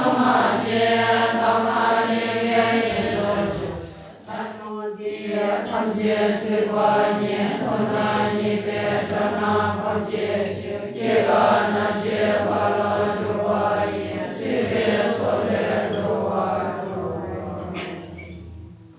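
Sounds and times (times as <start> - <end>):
group chanting prayers: 0.0 - 18.9.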